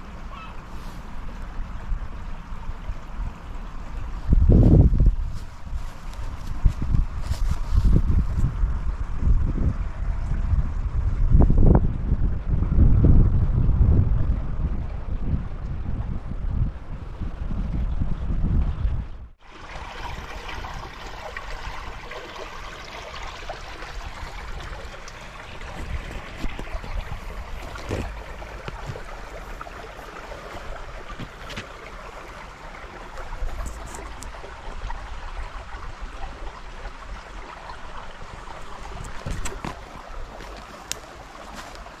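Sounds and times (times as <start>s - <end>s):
river water flowing and gurgling: 0.0s - 42.0s.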